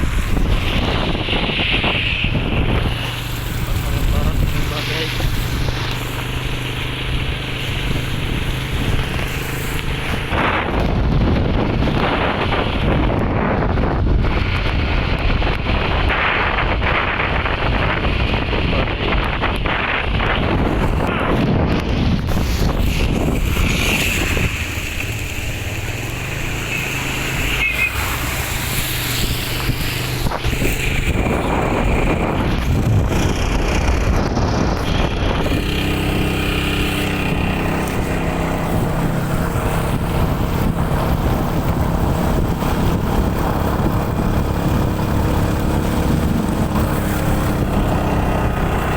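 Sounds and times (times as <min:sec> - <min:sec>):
storm wind buffeting microphone: 0:00.0 - 0:48.9.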